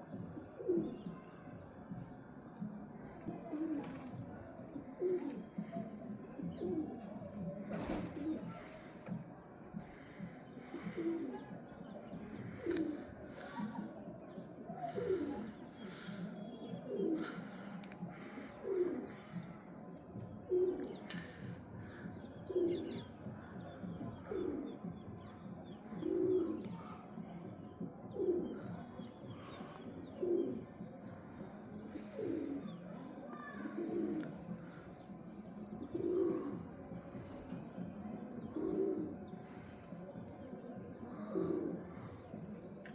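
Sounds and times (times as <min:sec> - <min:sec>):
pigeon cooing: 0:00.0 - 0:21.6, 0:22.5 - 0:24.8, 0:25.8 - 0:27.2, 0:28.0 - 0:42.9.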